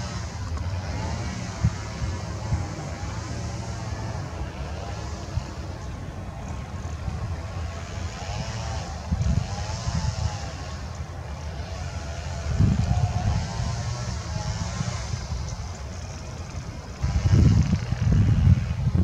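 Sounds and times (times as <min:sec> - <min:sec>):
distant jet engines rumbling: 0:00.0 - 0:19.0
wind gusting on microphone: 0:00.0 - 0:19.0.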